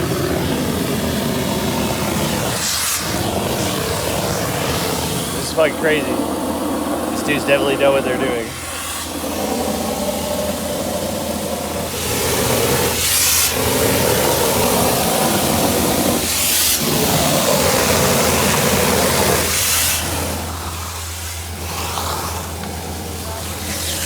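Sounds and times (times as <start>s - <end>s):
heavy engine running: 0.0s - 24.0s.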